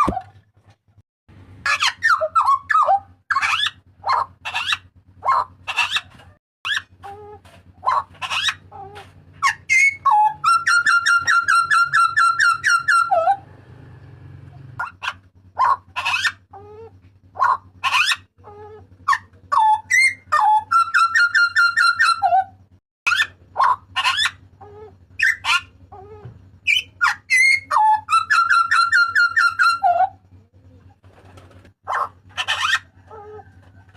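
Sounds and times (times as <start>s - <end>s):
butcherbird calling: 1.6s - 13.5s, 14.6s - 33.9s.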